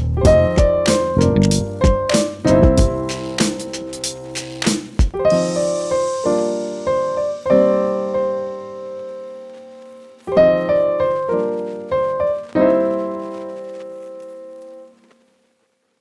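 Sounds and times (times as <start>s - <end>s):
piano chords ringing: 0.0s - 15.0s.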